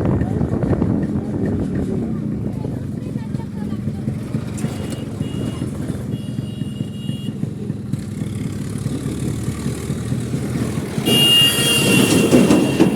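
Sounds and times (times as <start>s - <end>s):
two-stroke engine running: 0.0s - 12.9s.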